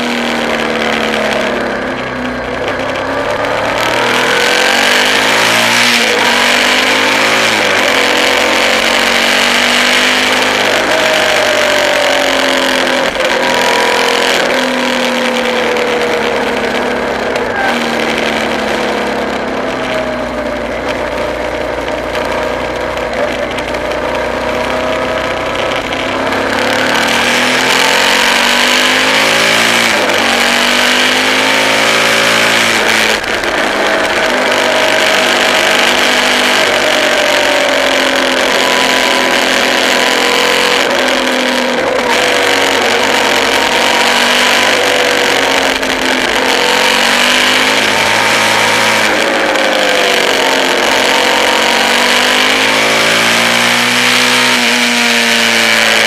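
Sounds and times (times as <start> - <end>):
car engine from inside cabin: 0.0 - 56.0
road and wind noise: 0.0 - 56.0.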